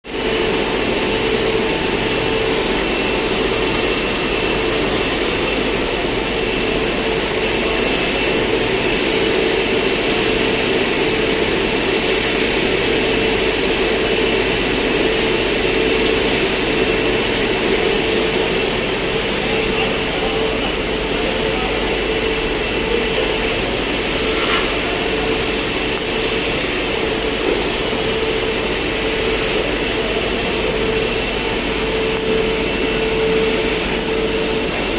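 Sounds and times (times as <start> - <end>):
cutting machine hum and whine: 0.1 - 34.9.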